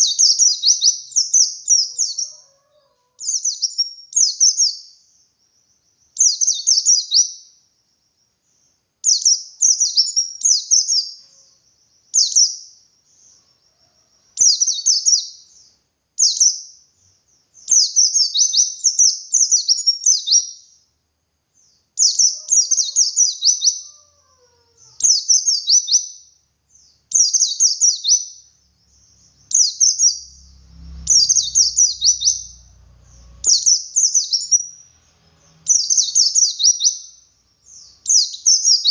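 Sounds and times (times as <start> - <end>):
white-eye bird singing: 0.0 - 38.9.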